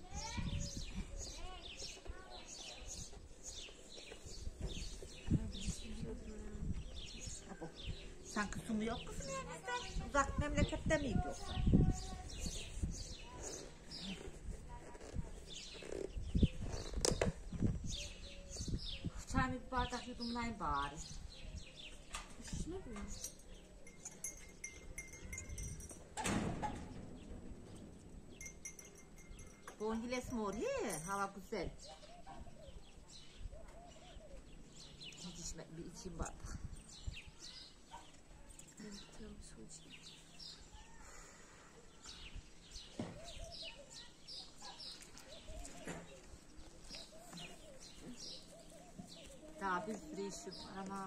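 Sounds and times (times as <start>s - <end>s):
birds chirping: 0.0s - 26.1s, 26.8s - 51.0s.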